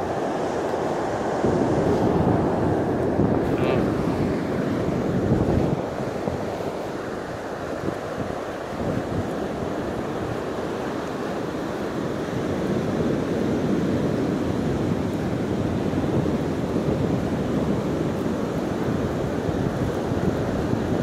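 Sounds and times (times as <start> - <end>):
ocean surf washing in: 0.0 - 21.0
wind buffeting microphone: 0.0 - 21.0.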